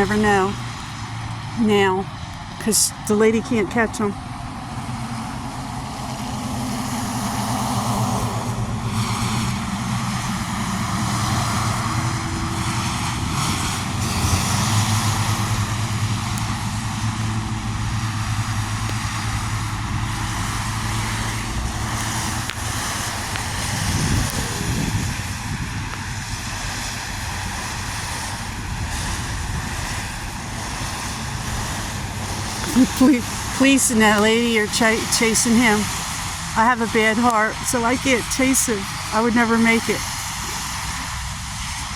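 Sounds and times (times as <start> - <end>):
road traffic hum: 0.0 - 41.9
vehicle passing by: 3.6 - 41.9.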